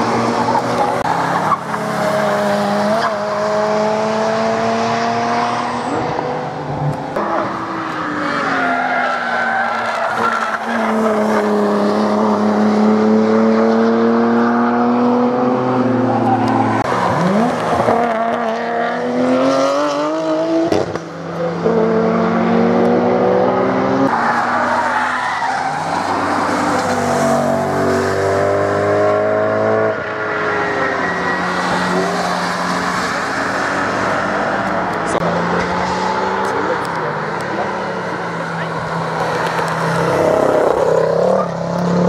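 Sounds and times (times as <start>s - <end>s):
sports cars passing at speed: 0.0s - 42.0s.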